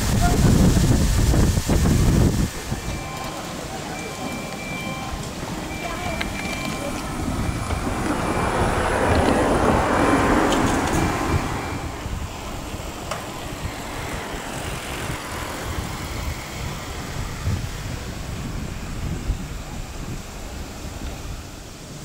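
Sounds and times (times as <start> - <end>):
vehicle passing: 2.6 - 20.7.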